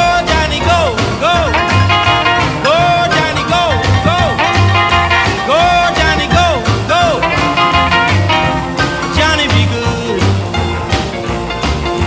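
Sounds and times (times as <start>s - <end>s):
upbeat song with pulsing bass: 0.0s - 12.0s.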